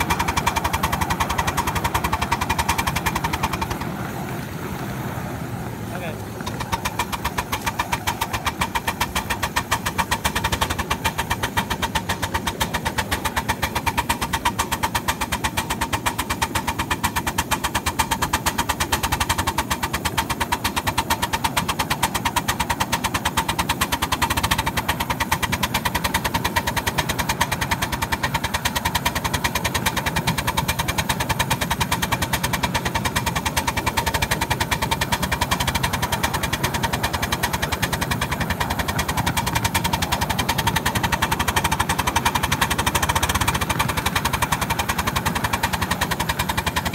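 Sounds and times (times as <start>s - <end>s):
small steam locomotive running: 0.0s - 46.9s.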